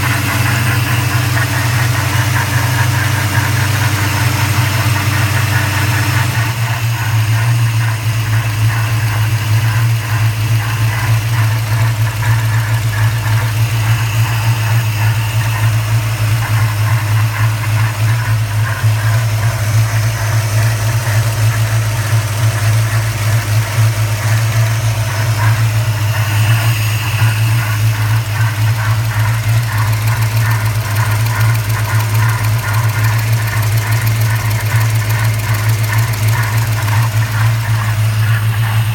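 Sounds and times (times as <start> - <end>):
car engine low hum: 0.0 - 38.9.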